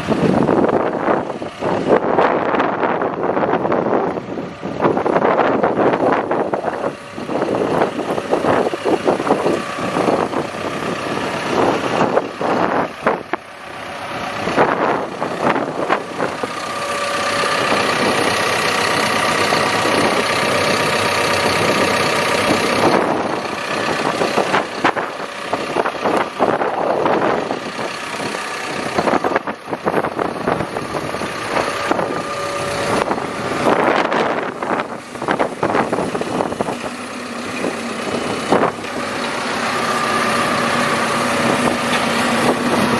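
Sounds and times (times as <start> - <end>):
diesel engine running: 0.0 - 42.9
engine whine: 0.0 - 42.9.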